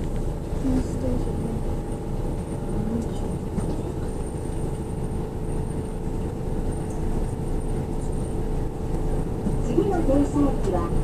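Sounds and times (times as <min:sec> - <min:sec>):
monorail car rumbling: 0:00.0 - 0:11.0.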